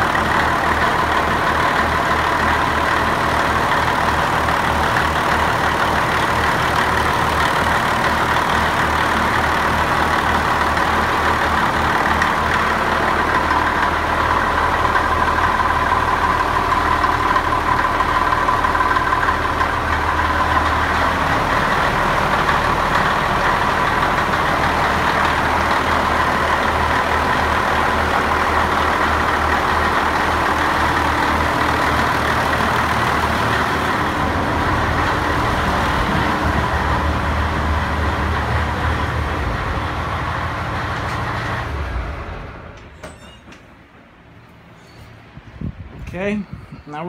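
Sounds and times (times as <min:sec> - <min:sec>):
boat engine idling: 0:00.0 - 0:42.8.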